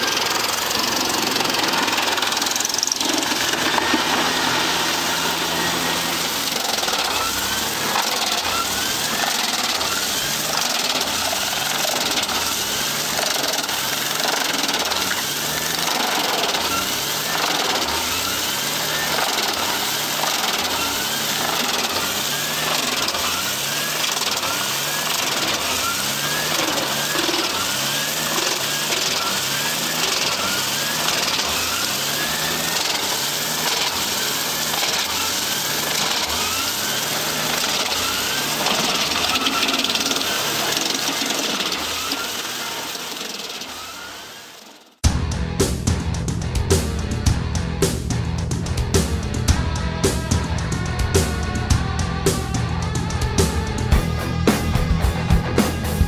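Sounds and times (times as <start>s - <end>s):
wood chipper grinding logs: 0.0s - 45.0s, 48.3s - 56.0s.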